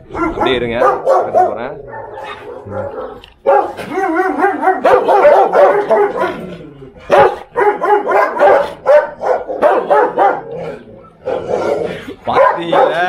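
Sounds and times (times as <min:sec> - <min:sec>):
dog barking aggressively: 0:00.0 - 0:13.0.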